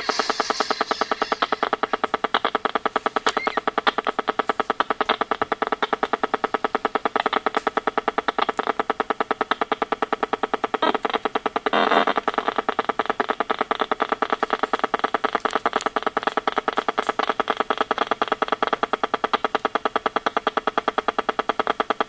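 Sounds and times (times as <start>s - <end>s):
rapid buzzing tick from meter: 0.0s - 22.0s.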